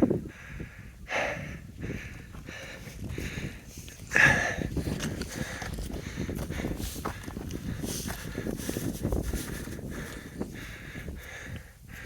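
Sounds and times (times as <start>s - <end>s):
person breathing hard: 0.2s - 12.0s.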